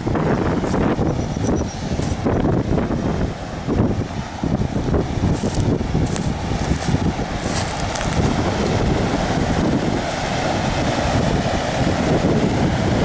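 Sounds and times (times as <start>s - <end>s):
fast-flowing river rushing: 0.0s - 13.0s
wind buffeting microphone: 0.0s - 13.0s.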